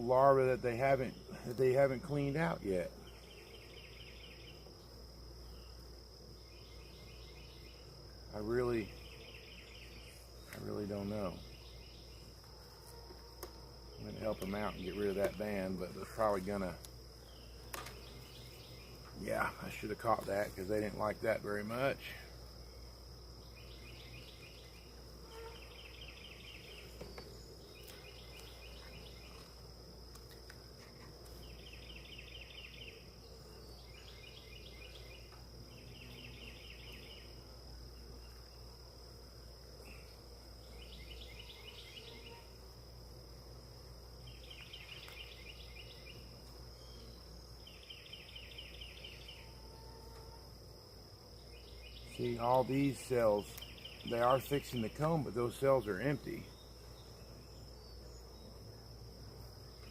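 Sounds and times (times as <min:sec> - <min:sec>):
pulsing insect chirps: 0:00.8 - 0:59.9.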